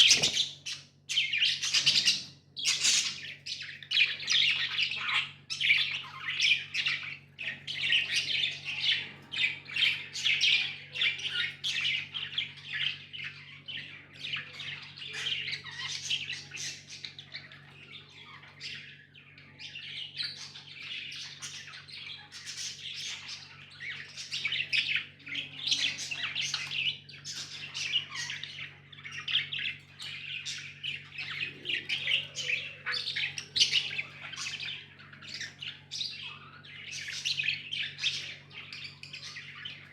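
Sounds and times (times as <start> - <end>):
budgies chattering: 0.0 - 39.9.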